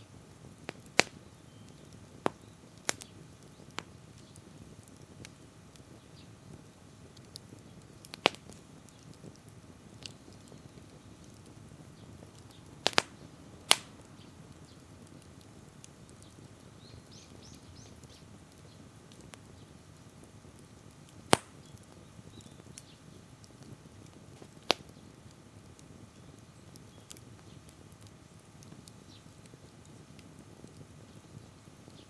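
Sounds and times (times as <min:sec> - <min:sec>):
fire crackling pops: 0:00.0 - 0:32.0
wood fire rustling: 0:00.0 - 0:32.0.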